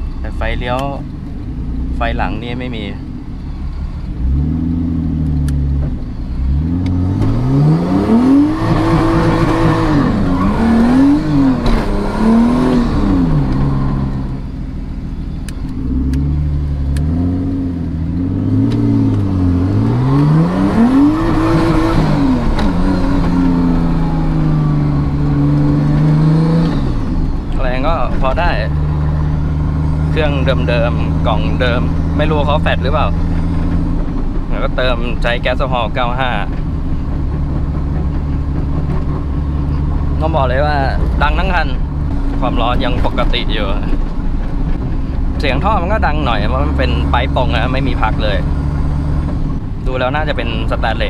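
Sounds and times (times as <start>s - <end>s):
car engine from inside cabin: 0.0s - 51.0s.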